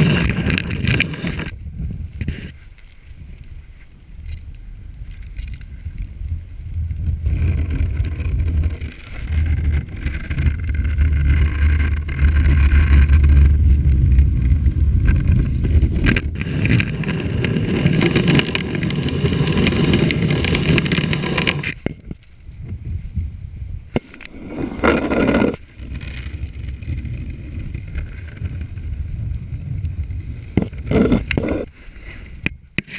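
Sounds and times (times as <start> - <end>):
low rumble: 3.1 - 31.8.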